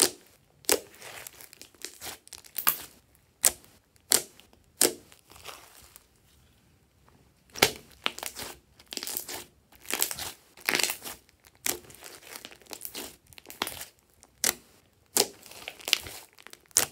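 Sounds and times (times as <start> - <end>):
slime squishing: 0.0 - 6.2, 7.5 - 16.9.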